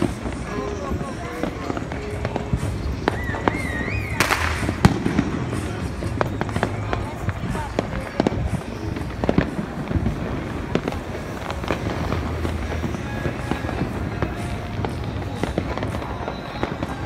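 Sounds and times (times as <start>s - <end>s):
fireworks popping and banging: 0.0s - 17.0s.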